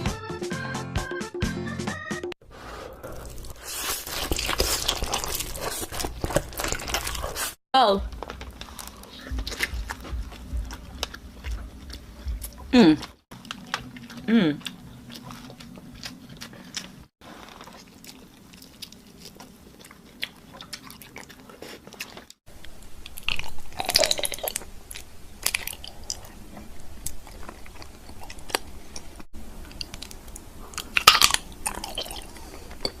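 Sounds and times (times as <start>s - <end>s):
crunchy eating and chewing: 2.5s - 33.0s.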